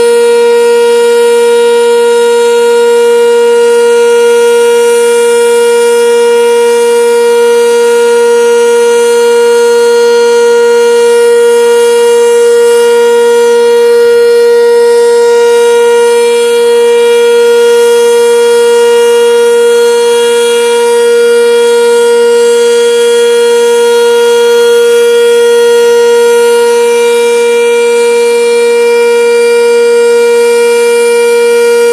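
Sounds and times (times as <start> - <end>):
warning siren steady tone: 0.0 - 31.9.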